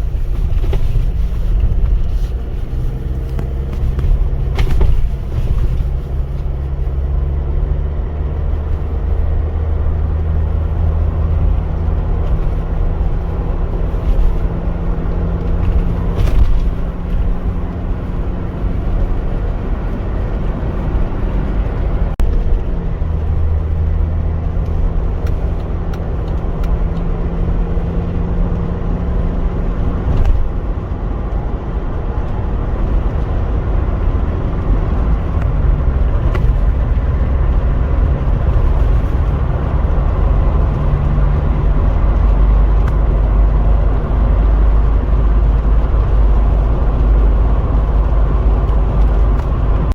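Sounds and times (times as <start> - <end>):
diesel engine humming: 0.0 - 49.9
low vehicle rumble: 0.0 - 49.9.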